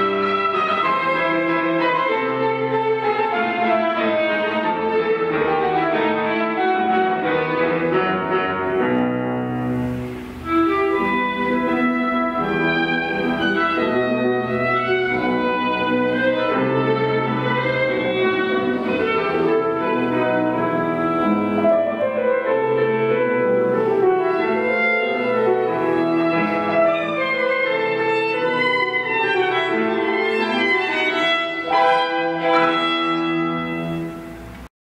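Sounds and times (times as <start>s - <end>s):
bowed strings: 0.0s - 34.7s
piano: 0.0s - 34.7s.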